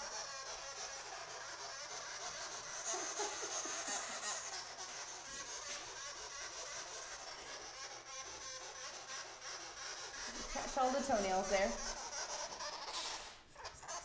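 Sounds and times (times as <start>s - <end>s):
sugar glider chattering buzz: 0.0s - 14.0s.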